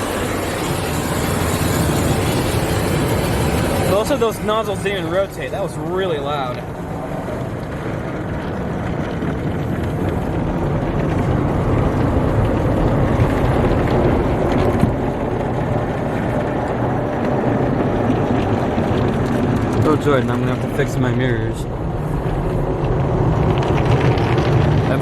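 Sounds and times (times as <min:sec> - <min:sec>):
car wash rushing noise: 0:00.0 - 0:25.0
deep hum: 0:00.0 - 0:25.0.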